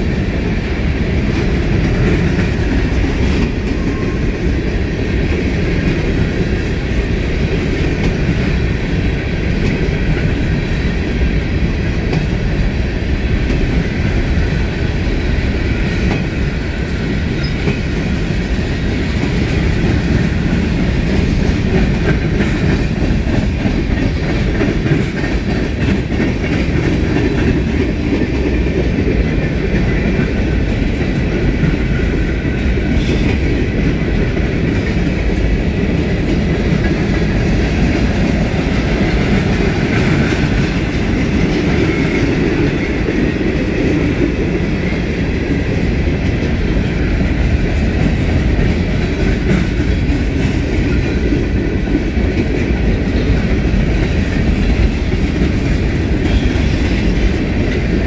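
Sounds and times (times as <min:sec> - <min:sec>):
train wheels clacking on rails: 0:00.0 - 0:58.0.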